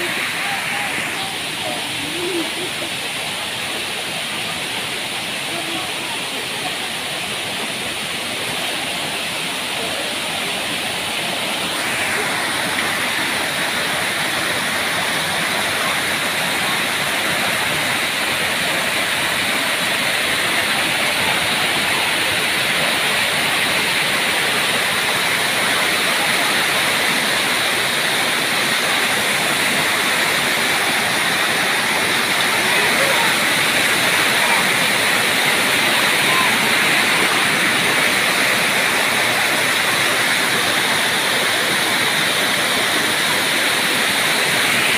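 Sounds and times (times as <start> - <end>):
waterfall rushing water: 0.0 - 44.9.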